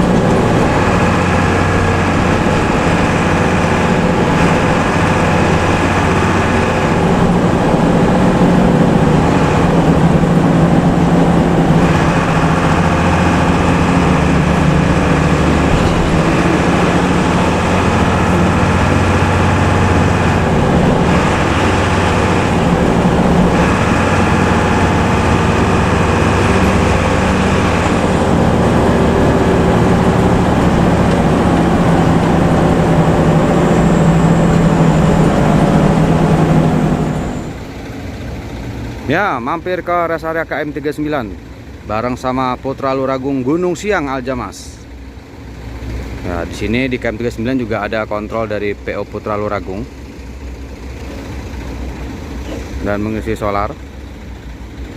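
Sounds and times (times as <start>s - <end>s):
bus diesel engine drone: 0.0s - 54.9s
tyre and road noise: 0.0s - 54.9s.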